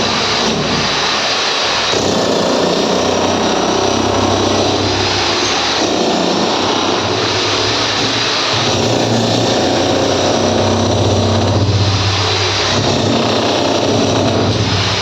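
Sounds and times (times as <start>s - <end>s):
motor running with low hum: 0.0s - 15.0s.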